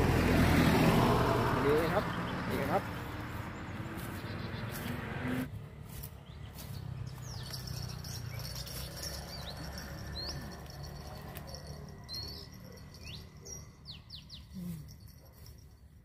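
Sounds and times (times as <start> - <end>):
small birds chirping: 1.7 - 16.0.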